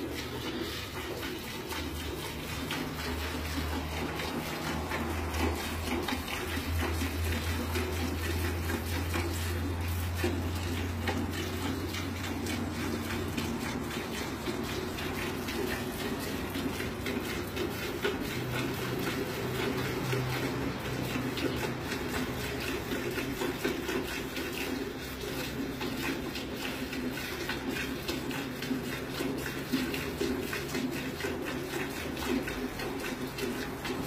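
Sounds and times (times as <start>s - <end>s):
milk squirting into pail: 0.0s - 34.0s.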